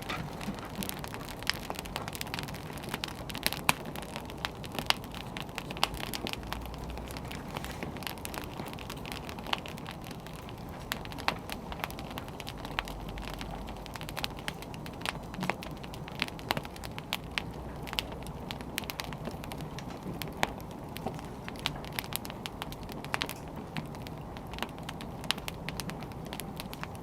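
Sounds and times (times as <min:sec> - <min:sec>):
logs crackling and popping: 0:00.0 - 0:27.0
wood fire hissing: 0:00.0 - 0:27.0.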